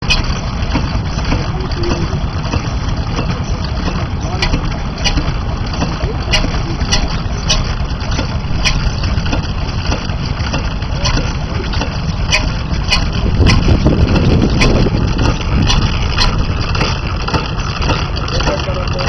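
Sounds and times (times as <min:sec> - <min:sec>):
stationary engine running: 0:00.0 - 0:19.0.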